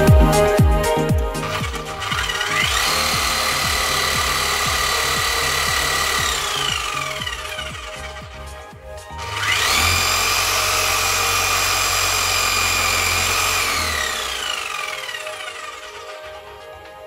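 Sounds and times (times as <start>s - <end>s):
drill motor whine: 1.4s - 17.0s.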